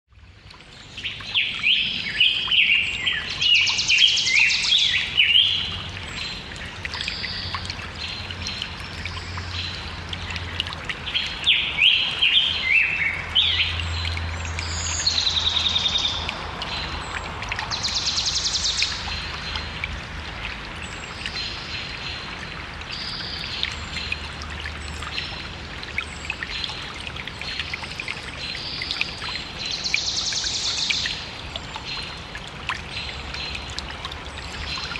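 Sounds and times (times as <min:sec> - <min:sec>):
stream trickling: 0:00.1 - 0:34.9
songbirds singing: 0:00.2 - 0:34.9.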